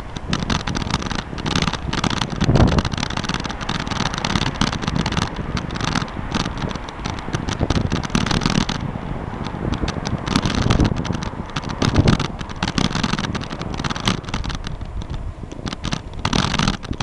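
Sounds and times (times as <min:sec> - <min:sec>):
bike rattling and clicking: 0:00.0 - 0:17.0
wind rumbling on microphone: 0:00.0 - 0:17.0.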